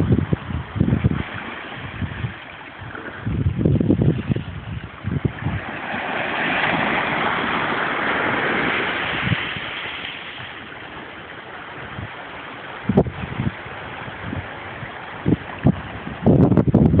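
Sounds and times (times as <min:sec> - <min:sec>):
waves washing over rocks: 0:00.0 - 0:17.0
wind on microphone: 0:00.0 - 0:17.0.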